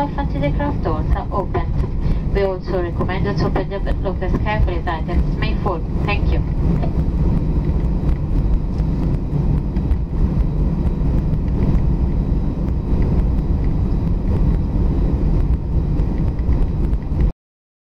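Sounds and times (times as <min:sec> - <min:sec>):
jet engines low rumble: 0:00.0 - 0:17.3.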